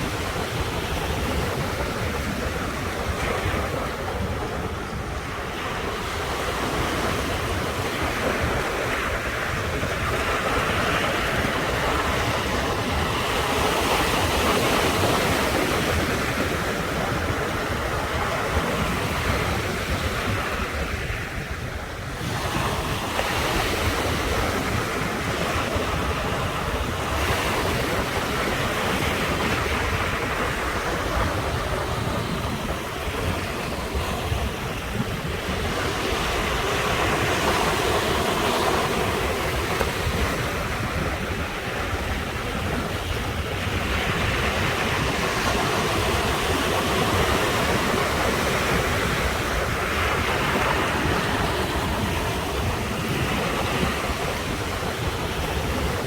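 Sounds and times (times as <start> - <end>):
ocean surf breaking: 0.0 - 56.0
wind rumble on microphone: 0.0 - 56.0.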